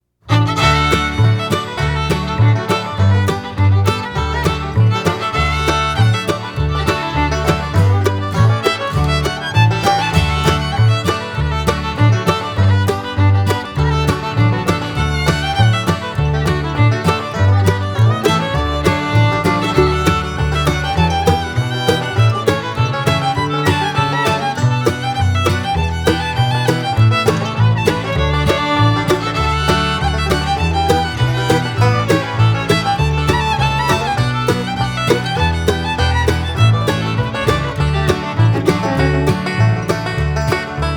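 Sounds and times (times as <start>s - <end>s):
bluegrass music with fiddle: 0.2s - 40.9s.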